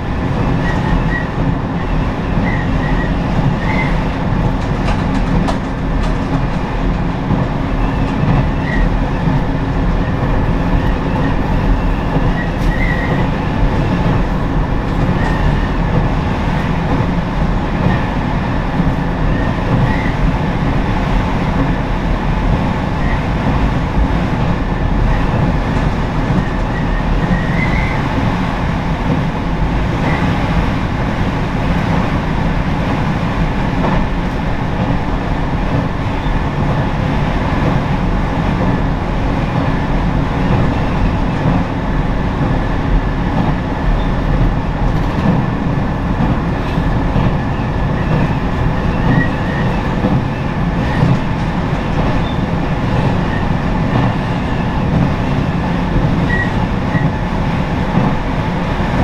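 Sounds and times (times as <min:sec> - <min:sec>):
railcar rumbling on track: 0:00.0 - 0:59.0.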